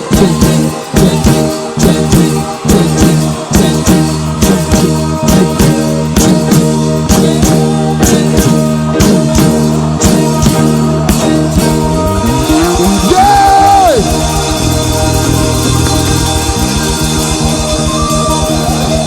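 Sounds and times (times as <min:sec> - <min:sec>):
drum beat: 0:00.0 - 0:19.0
held chords: 0:00.0 - 0:19.0
high sliding note: 0:00.0 - 0:19.0.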